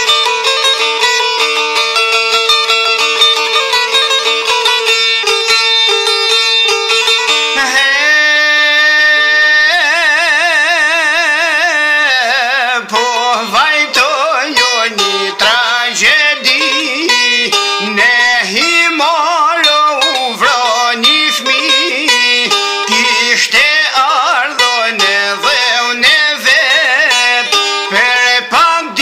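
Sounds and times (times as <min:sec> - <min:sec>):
plucked strings: 0:00.0 - 0:29.0.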